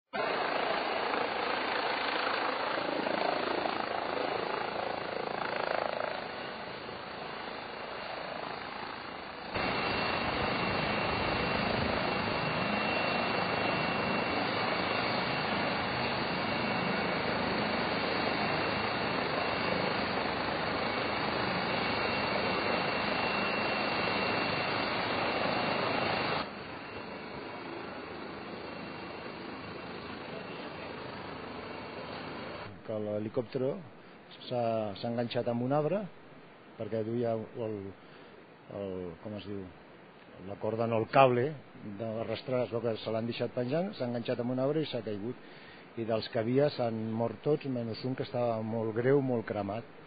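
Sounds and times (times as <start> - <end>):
helicopter rotor and turbine rushing: 0.1 - 32.8, 40.6 - 50.0
faint high steady whine: 0.2 - 50.0.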